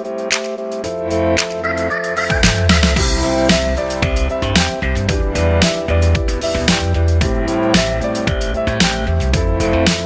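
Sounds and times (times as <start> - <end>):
electronic music with strong bass: 0.0 - 10.0.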